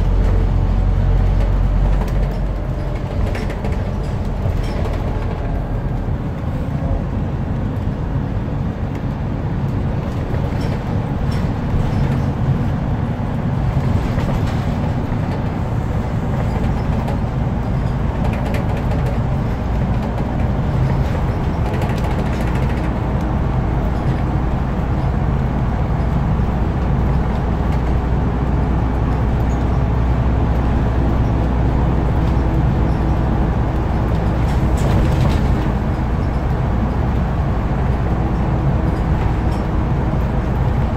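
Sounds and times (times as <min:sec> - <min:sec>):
bus diesel engine drone: 0:00.0 - 0:40.9
road rumble: 0:00.0 - 0:40.9.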